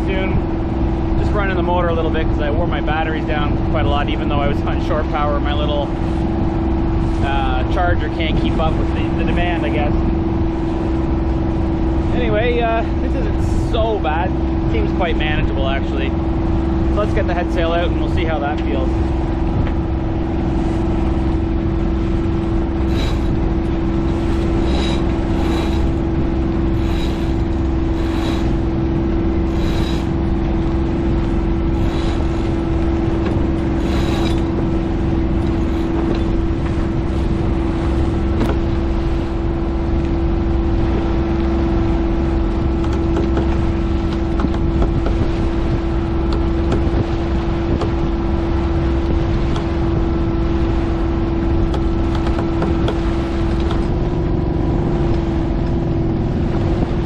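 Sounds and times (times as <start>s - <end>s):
boat motor droning: 0.0s - 57.0s.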